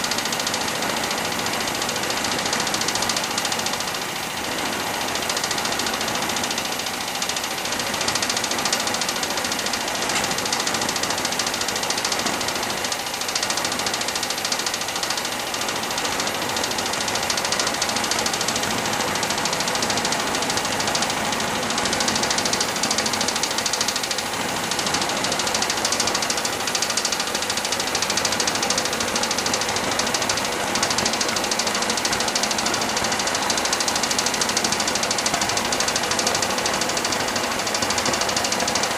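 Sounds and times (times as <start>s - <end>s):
engine mechanical clatter: 0.0s - 38.9s.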